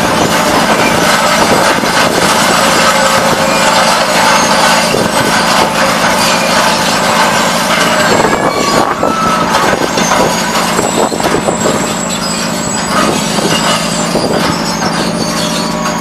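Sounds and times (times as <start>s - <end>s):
high metallic squeals: 0.0s - 16.0s
scrap metal grinding and clatter: 0.0s - 16.0s
shredder drive hum: 0.0s - 16.0s.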